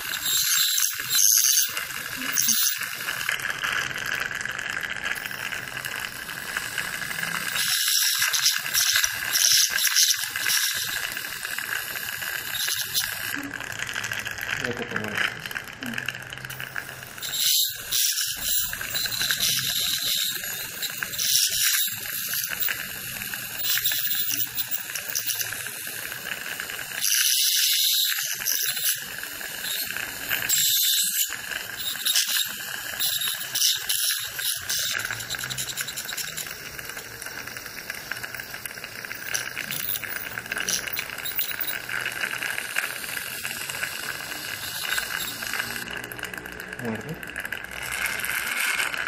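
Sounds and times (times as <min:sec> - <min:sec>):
dental suction tube hissing: 0:00.0 - 0:46.5
dental ultrasonic handpiece whine: 0:00.0 - 0:49.0.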